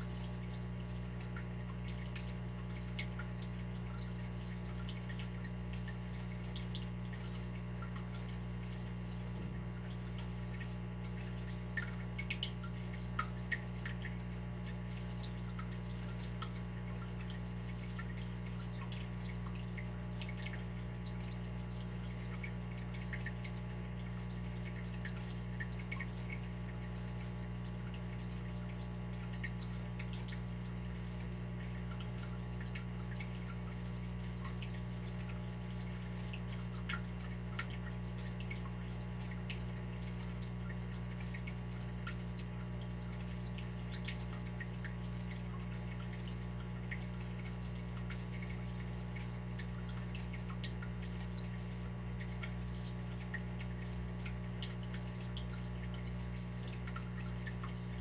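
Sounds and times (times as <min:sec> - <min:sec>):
water dripping and trickling: 0:00.0 - 0:58.0.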